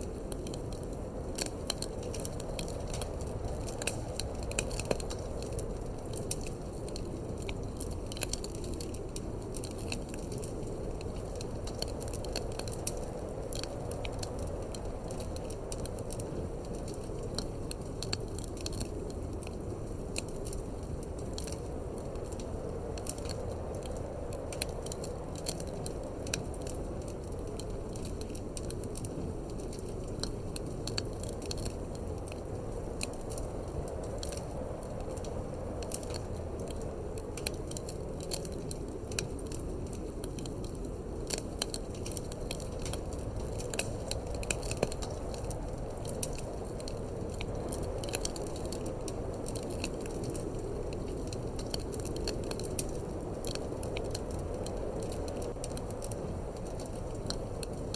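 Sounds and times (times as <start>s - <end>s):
low wind rumble: 0.0s - 57.9s
wood fire crackling and popping: 0.0s - 57.9s.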